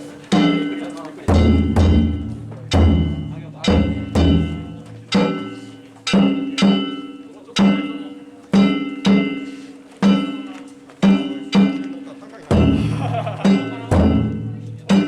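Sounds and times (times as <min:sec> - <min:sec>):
metal gong and drum strokes: 0:00.3 - 0:11.9, 0:12.5 - 0:15.0.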